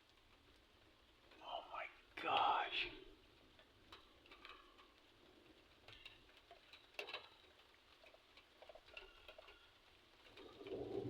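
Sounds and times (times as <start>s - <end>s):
faint ticks and clicks: 0.0s - 11.0s.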